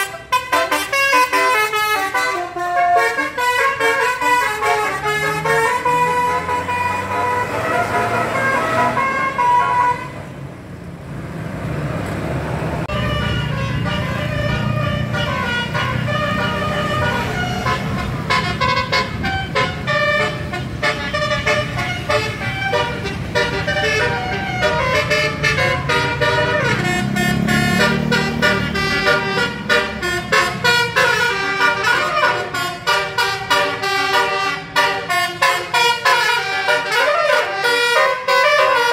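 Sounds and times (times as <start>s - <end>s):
musical vehicle horn playing a tune: 0.0s - 10.2s, 12.9s - 38.9s.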